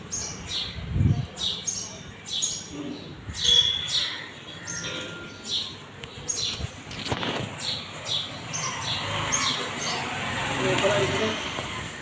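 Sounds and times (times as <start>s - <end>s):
bird chirping: 0.0s - 10.2s.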